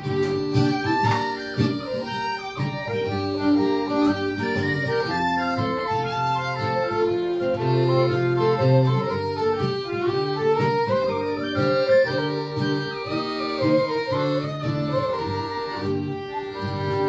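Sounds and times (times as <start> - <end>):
fiddle: 0.0 - 17.0
piano accordion: 0.0 - 17.0
strummed acoustic guitar: 0.0 - 17.0.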